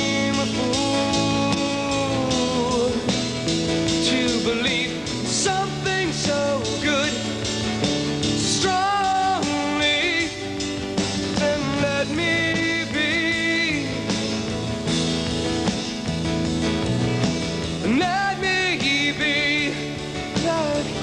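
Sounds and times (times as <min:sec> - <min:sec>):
man singing: 0:00.0 - 0:14.6, 0:17.8 - 0:21.0
rock band playing: 0:00.0 - 0:21.0.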